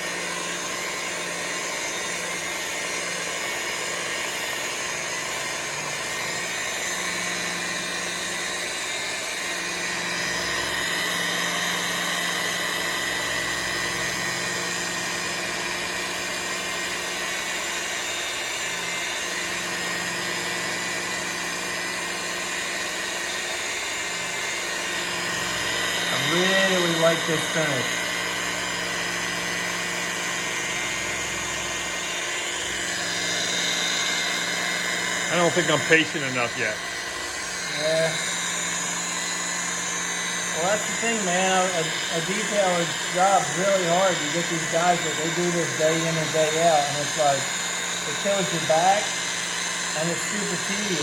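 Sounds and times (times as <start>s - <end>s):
buffer motor hum: 0.0s - 51.0s.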